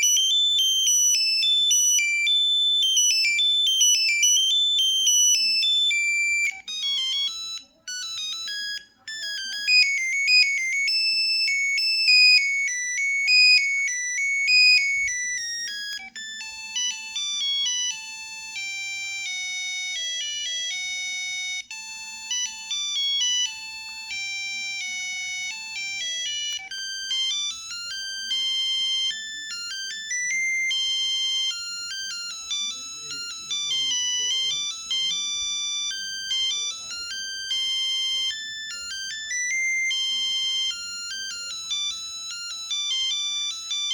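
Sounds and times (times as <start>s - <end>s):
polyphonic phone ringtone: 0.0s - 43.9s.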